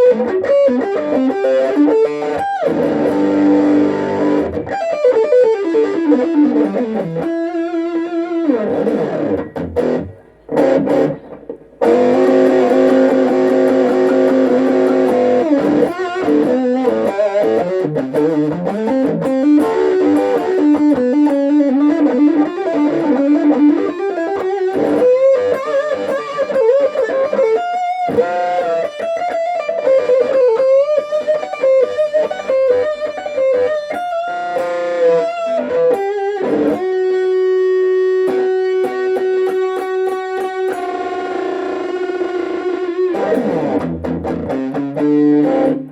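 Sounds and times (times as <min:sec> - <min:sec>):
electric guitar single-note lines: 0:00.0 - 0:45.9.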